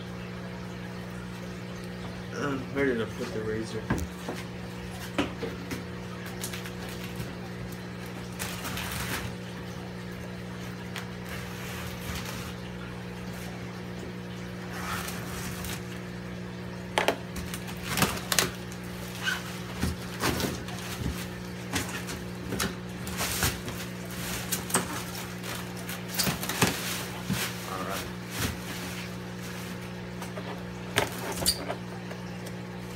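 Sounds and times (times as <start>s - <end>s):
sharp crackles and knocks: 3.1s - 16.1s, 16.8s - 32.9s.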